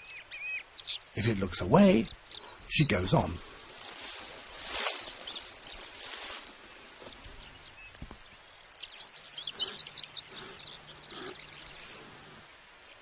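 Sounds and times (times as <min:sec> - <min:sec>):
small bird chirping: 0:02.0 - 0:13.0.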